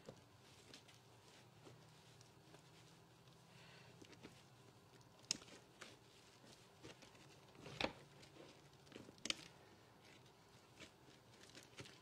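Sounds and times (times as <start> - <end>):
squelching of grated potato: 0.0 - 12.0.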